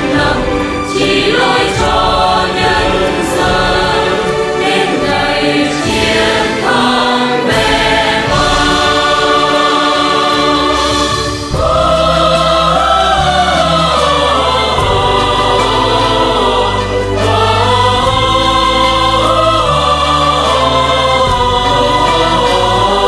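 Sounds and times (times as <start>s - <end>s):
choir singing in unison: 0.0s - 23.0s.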